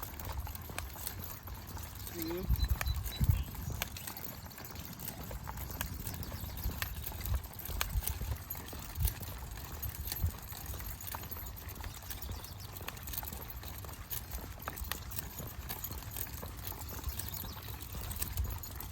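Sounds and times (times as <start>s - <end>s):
footsteps on a trail: 0.0s - 18.9s.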